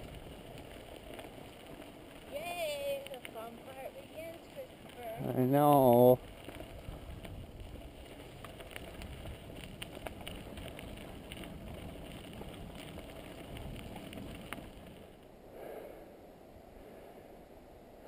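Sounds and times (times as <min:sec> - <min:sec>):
bike clicks and rattles: 0:00.0 - 0:15.2
bike tyres on dirt trail: 0:00.0 - 0:16.0.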